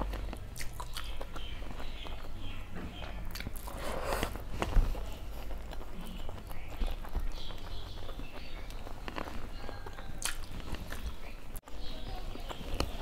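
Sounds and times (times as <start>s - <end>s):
wet chewing and lip smacks: 0.0s - 2.6s, 3.2s - 11.6s.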